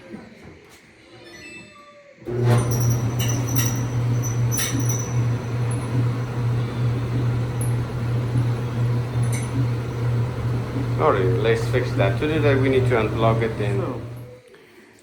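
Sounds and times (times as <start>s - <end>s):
electric dryer humming: 2.2s - 14.4s
dryer drum squeaking: 2.3s - 14.4s.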